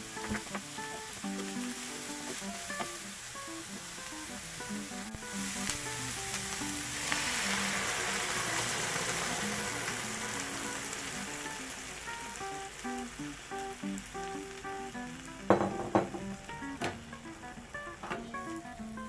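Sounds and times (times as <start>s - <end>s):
food sizzling in a pan: 0.0s - 19.0s
soft plucked background music: 0.0s - 19.0s.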